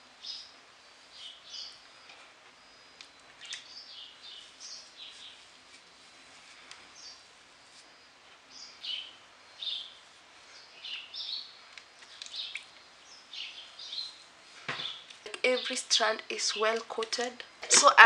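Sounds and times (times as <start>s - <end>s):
faint hiss: 0.0s - 18.0s
small bird chirping: 0.2s - 5.5s, 6.8s - 17.1s.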